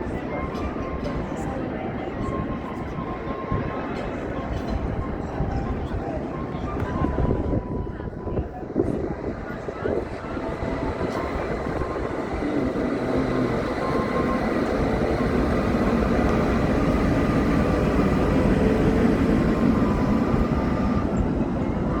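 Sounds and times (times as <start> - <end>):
city street traffic rumble: 0.0 - 22.0.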